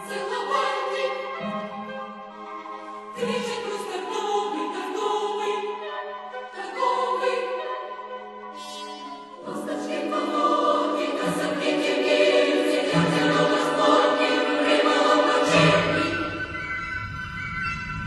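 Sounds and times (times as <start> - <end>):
choral music: 0.0 - 18.0.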